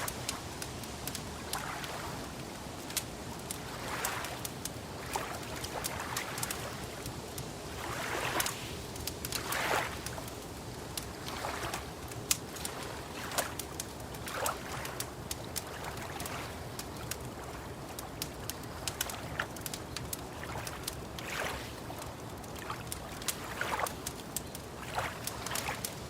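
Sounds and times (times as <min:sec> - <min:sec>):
lake water lapping: 0:00.0 - 0:26.0
wood fire crackling and popping: 0:00.0 - 0:26.0.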